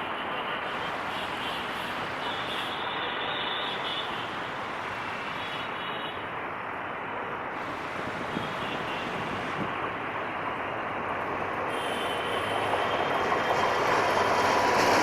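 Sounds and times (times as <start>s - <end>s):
passenger train running: 0.0s - 15.0s.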